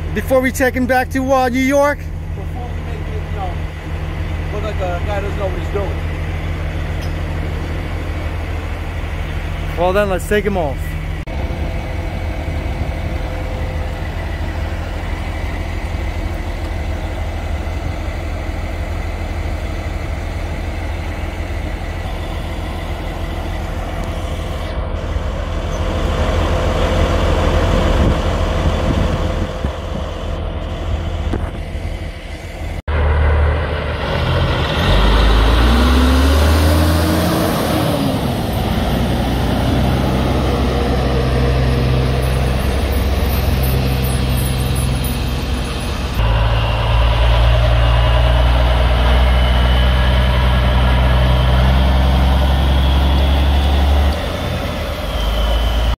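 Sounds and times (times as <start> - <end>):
diesel truck engine idling: 0.0 - 55.9
truck engine revving: 0.0 - 55.9.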